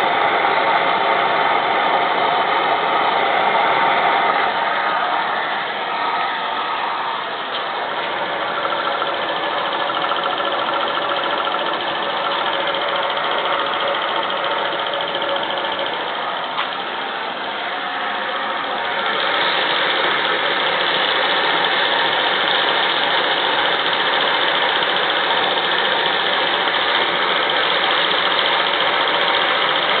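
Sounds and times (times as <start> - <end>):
steam engine running: 0.0 - 30.0.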